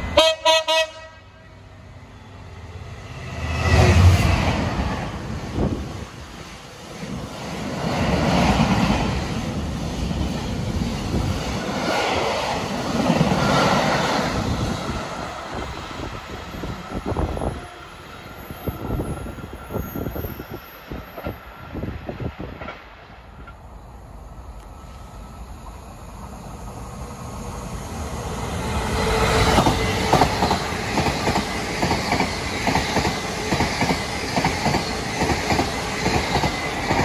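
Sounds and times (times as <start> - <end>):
train running on rails: 0.0 - 37.0.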